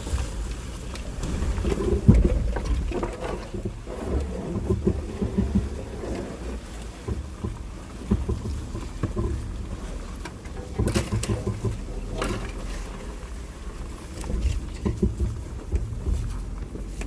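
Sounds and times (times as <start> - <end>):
suspension and body rattles: 0.0 - 17.0
wind on microphone: 0.0 - 17.0.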